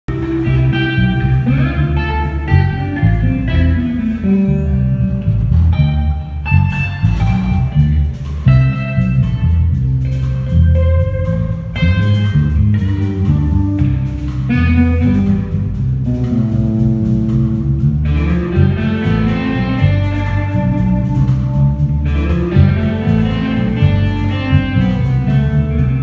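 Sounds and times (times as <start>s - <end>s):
rock band playing: 0.1s - 26.0s.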